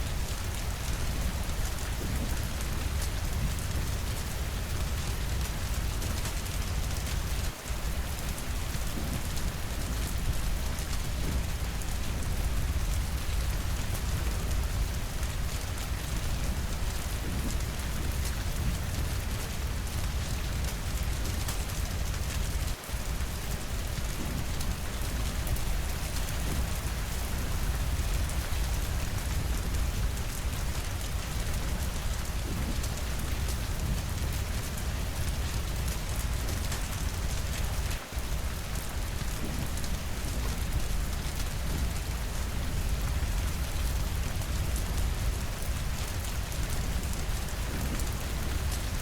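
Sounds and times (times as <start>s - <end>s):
rain on windows and roof: 0.0s - 49.0s.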